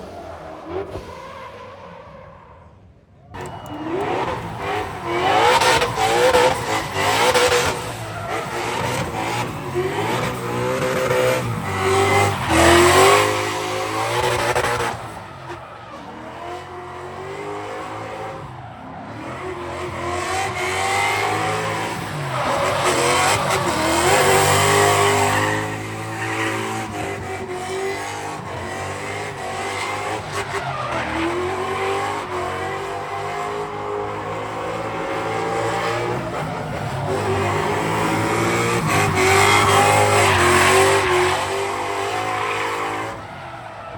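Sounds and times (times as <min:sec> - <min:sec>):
tyres squealing and skidding: 0:00.0 - 0:43.9
car engines revving hard: 0:03.3 - 0:43.9.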